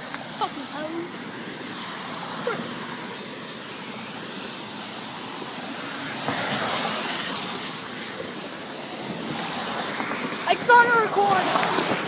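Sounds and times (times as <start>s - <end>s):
rain on a wet street: 0.0s - 12.0s.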